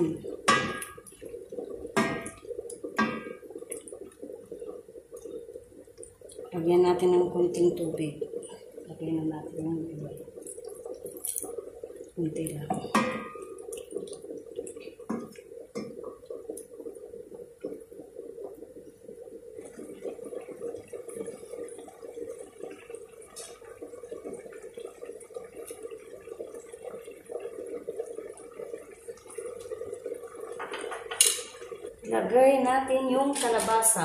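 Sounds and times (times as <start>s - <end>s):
food simmering bubbling: 0.0s - 34.0s.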